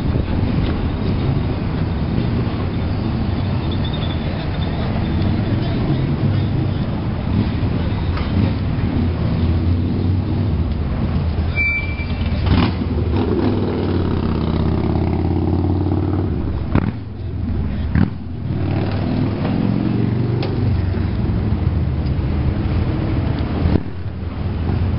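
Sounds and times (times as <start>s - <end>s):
electric tram humming: 0.0s - 24.9s.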